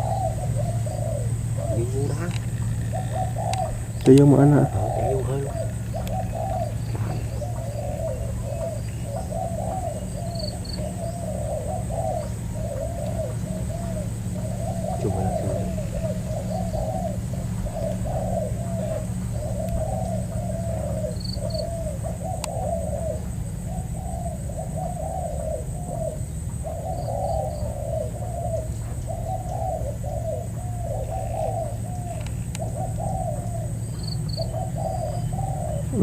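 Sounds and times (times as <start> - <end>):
doves cooing: 0.0 - 36.0
small bird chirping: 0.0 - 36.0
steady low hum: 0.0 - 36.0.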